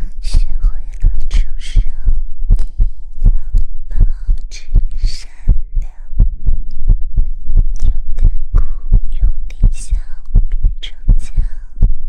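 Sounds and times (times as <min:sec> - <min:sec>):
person whispering: 0:00.0 - 0:06.2, 0:07.8 - 0:11.9
low hum: 0:00.0 - 0:12.0
soft low thumps: 0:00.0 - 0:12.0.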